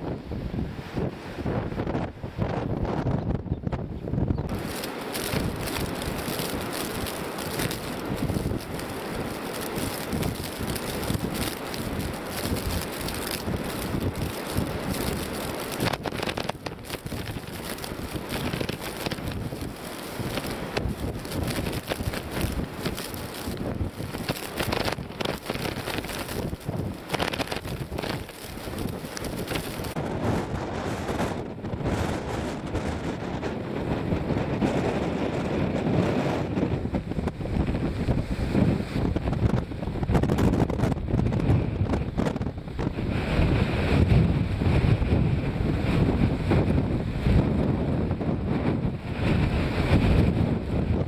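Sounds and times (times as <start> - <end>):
strong wind buffeting microphone: 0.0 - 51.0.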